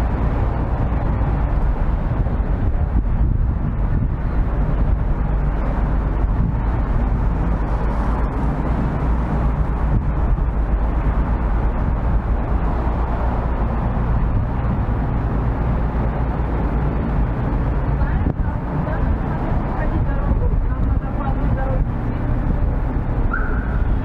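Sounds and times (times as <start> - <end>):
city street rumble: 0.0 - 24.0.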